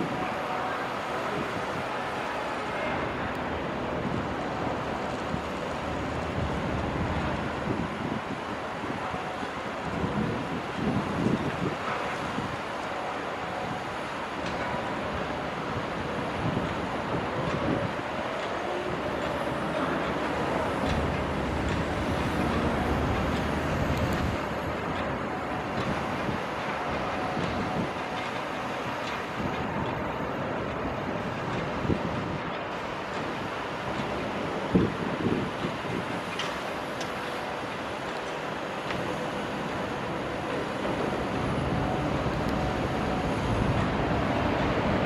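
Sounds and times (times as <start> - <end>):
excavator machinery noise: 0.0 - 45.0.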